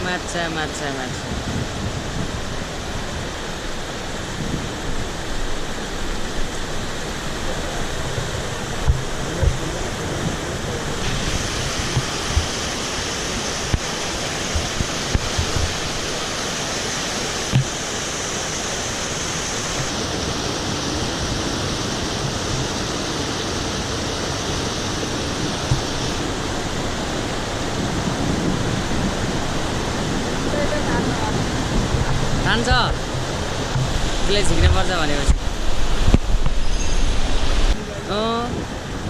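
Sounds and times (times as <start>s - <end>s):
mountain stream rushing: 0.0s - 39.0s.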